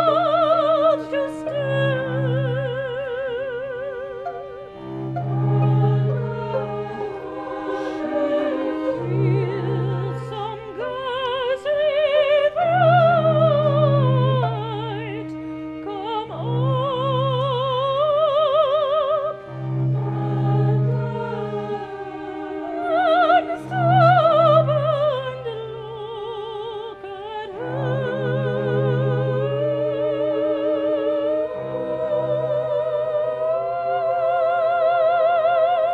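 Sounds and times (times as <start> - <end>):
low sustained accompaniment notes: 0.0 - 35.9
operatic singing voice: 0.0 - 35.9.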